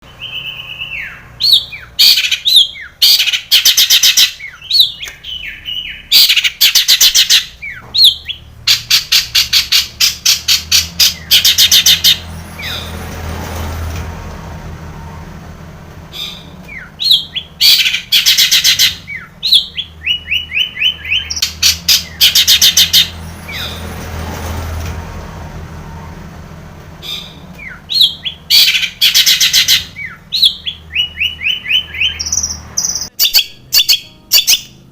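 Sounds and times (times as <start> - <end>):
shrike singing: 0.0 - 13.0, 16.1 - 23.9, 27.0 - 34.9.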